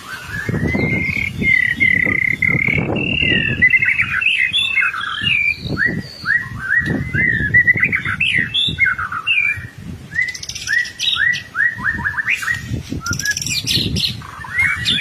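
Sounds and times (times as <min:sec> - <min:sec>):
bird singing clear whistles: 0:00.0 - 0:15.0.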